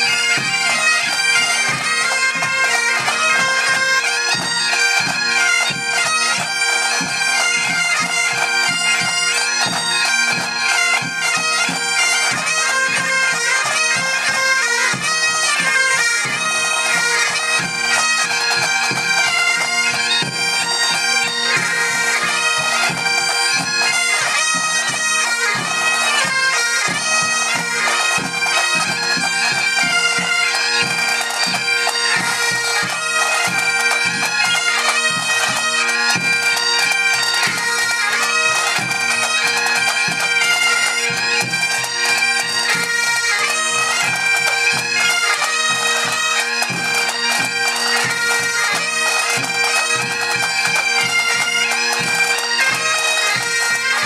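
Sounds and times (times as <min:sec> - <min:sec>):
bagpipes playing over drones: 0:00.0 - 0:54.0
drums beating: 0:00.0 - 0:54.0.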